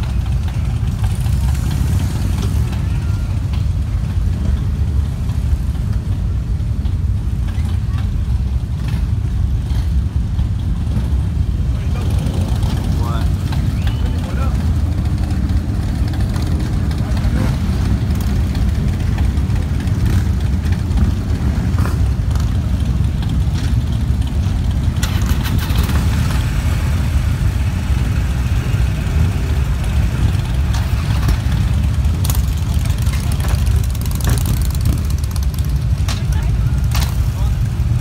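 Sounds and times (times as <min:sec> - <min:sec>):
motorcycle engines idling: 0:00.0 - 0:38.0.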